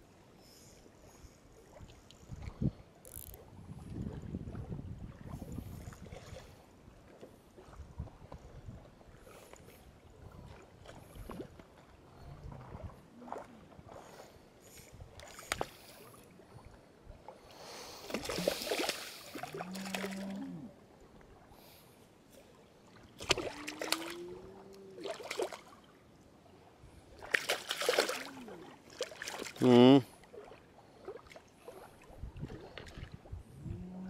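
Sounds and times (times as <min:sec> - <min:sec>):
water sloshing and splashing: 0:01.5 - 0:34.0.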